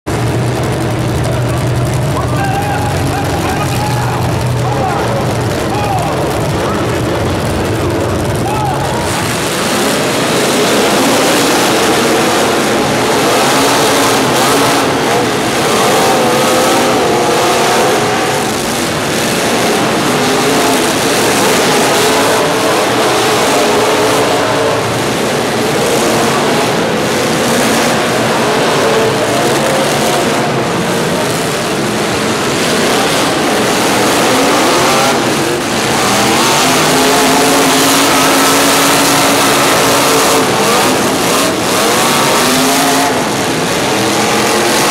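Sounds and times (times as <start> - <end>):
vehicle engines revving: 0.0 - 44.9.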